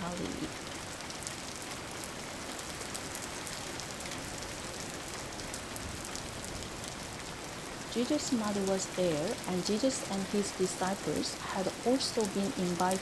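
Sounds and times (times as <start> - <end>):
rain pattering on a surface: 0.0 - 13.0.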